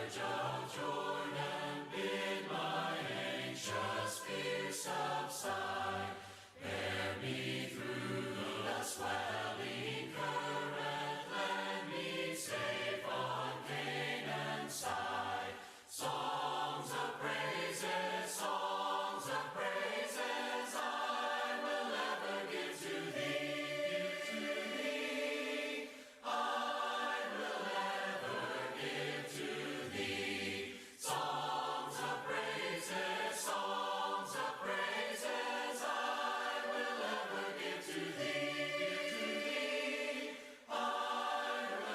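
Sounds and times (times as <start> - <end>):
congregation singing a hymn: 0.0 - 41.9.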